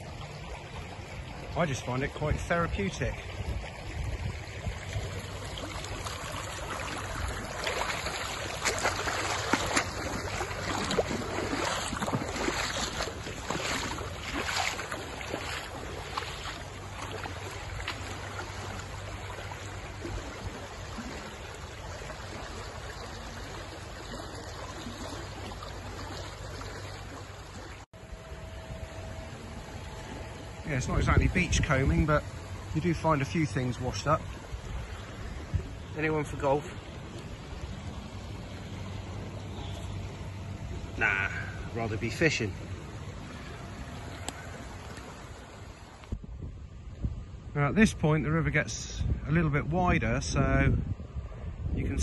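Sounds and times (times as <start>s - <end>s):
floodwater rushing: 0.0s - 47.6s.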